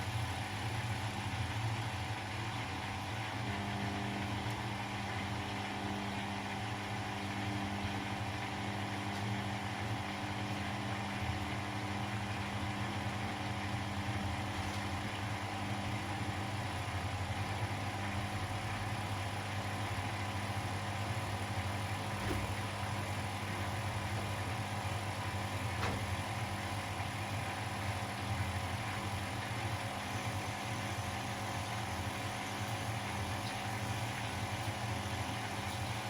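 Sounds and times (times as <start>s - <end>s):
laundry machines humming: 0.0s - 36.0s.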